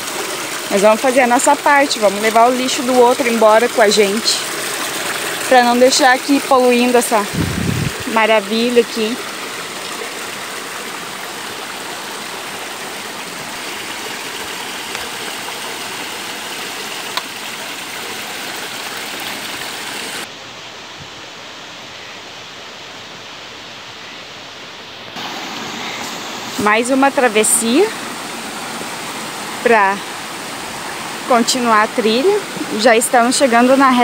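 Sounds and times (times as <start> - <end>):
stream rushing over boulders: 0.0 - 34.0.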